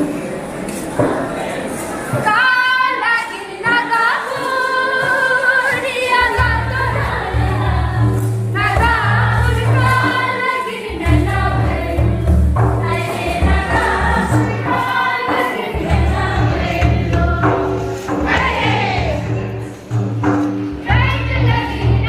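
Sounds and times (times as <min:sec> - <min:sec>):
group of voices singing: 0:00.0 - 0:20.1, 0:20.7 - 0:22.0.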